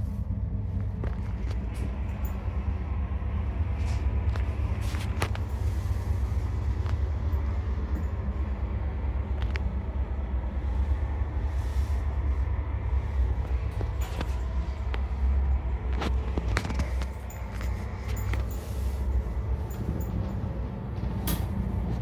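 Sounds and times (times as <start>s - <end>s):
diesel train rumble: 0.0s - 22.0s.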